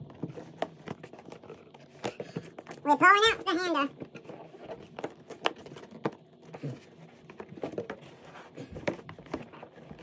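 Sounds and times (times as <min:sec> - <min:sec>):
cardboard box rustling: 0:00.0 - 0:02.8, 0:03.9 - 0:10.0.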